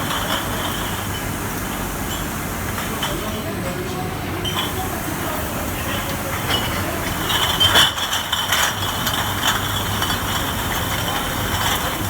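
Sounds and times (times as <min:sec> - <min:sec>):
glass bottles clinking: 0:00.0 - 0:03.5, 0:04.4 - 0:05.0, 0:05.7 - 0:12.0.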